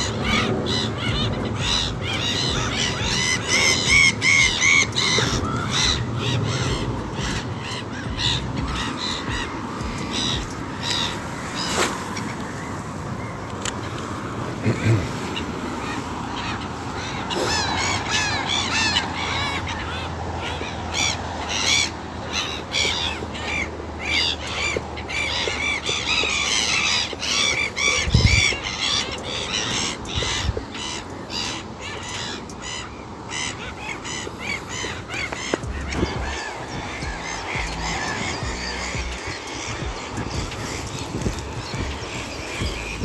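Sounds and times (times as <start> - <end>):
wild birds calling and singing: 0.0 - 43.0.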